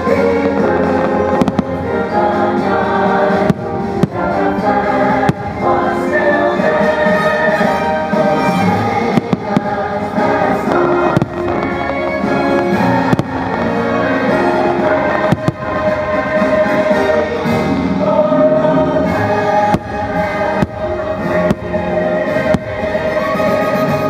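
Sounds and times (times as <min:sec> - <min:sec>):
fireworks bursting with bangs: 0:00.0 - 0:17.8, 0:19.0 - 0:24.0
music with choir singing: 0:00.0 - 0:24.0.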